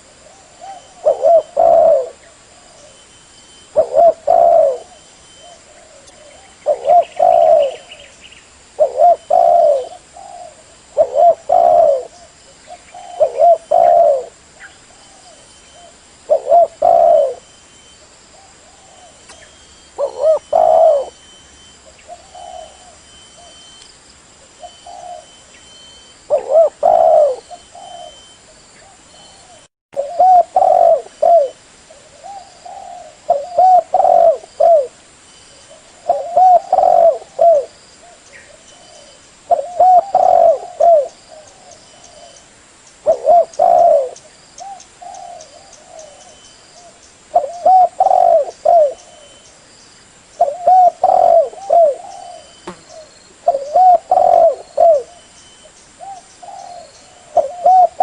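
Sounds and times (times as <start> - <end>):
dove cooing: 0.0 - 8.1, 8.8 - 17.5, 18.4 - 23.6, 24.6 - 35.0, 35.7 - 42.4, 43.0 - 49.4, 50.4 - 55.3, 56.0 - 58.0.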